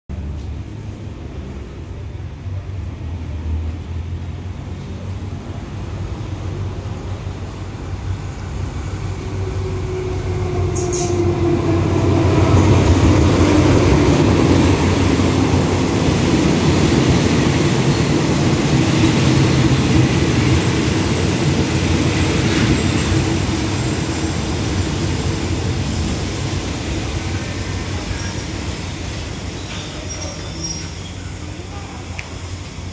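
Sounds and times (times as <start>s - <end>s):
rumble of rolling train wheels: 0.2s - 32.9s.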